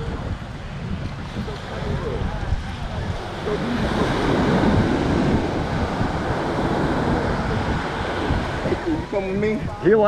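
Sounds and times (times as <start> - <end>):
ocean surf breaking: 0.0 - 10.0
wind buffeting microphone: 0.0 - 10.0.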